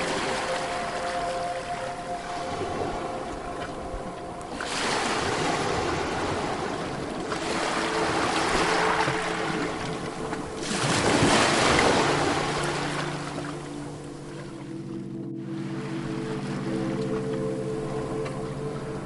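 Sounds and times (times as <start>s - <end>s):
sea waves washing on beach: 0.0s - 19.0s.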